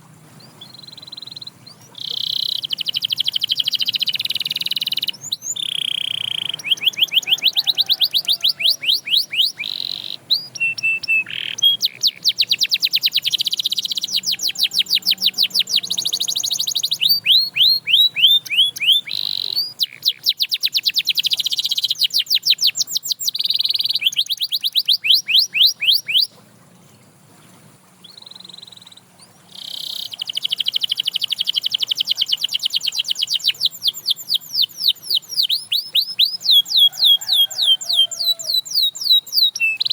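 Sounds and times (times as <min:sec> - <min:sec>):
canary singing trills: 0:00.0 - 0:26.4, 0:28.0 - 0:39.9.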